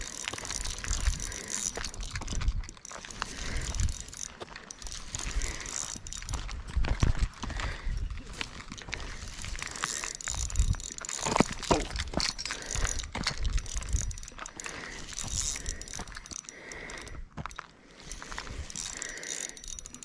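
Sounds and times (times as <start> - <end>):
fishing reel whirring and clicking: 0.0 - 20.0.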